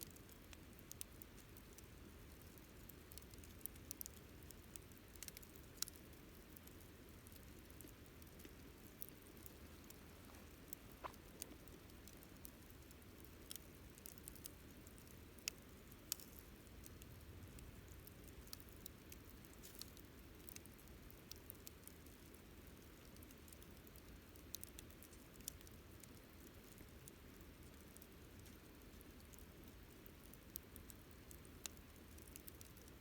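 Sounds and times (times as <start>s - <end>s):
campfire crackling: 0.0s - 33.0s
low steady hiss: 0.0s - 33.0s.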